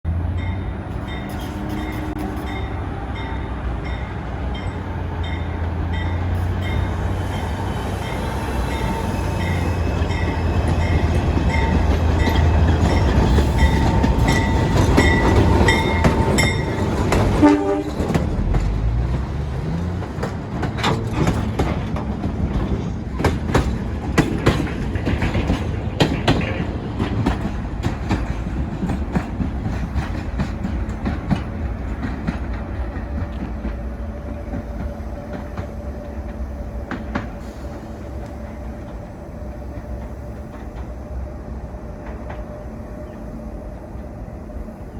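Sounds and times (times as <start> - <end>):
train low rumble: 0.0 - 44.9
wheels clicking over rail joints: 3.2 - 41.3.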